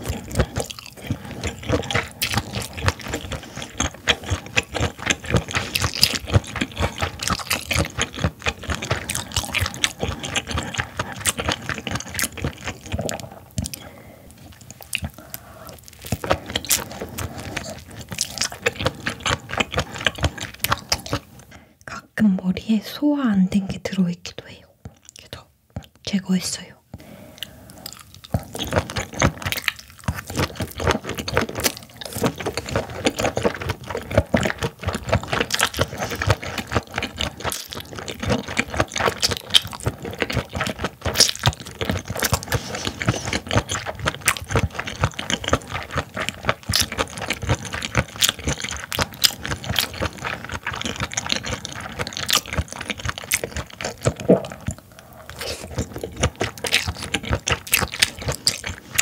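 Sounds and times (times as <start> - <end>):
wet chewing: 0.0 - 21.6, 26.9 - 59.0.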